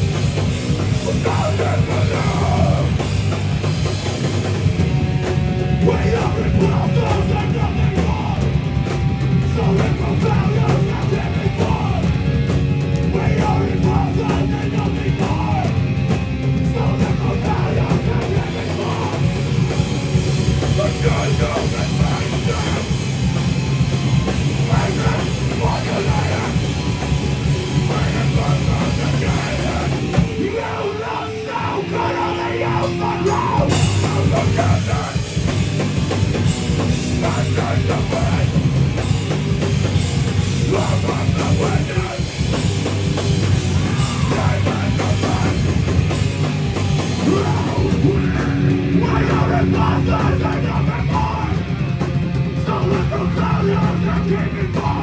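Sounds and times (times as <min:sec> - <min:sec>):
drum kit pounding: 0:00.0 - 0:55.0
heavy metal band playing: 0:00.0 - 0:55.0.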